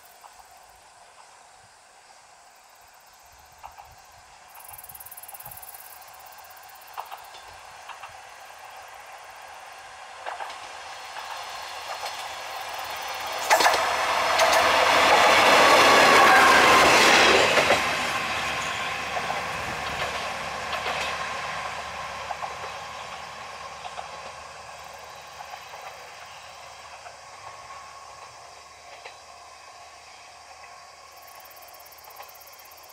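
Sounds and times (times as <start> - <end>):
diesel railcar passing: 0.0 - 32.9.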